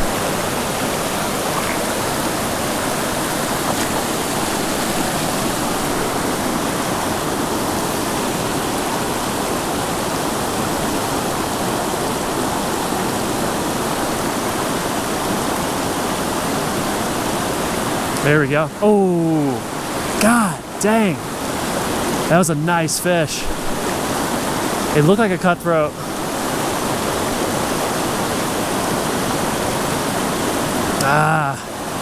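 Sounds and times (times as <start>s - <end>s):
creek rushing over rapids: 0.0s - 32.0s.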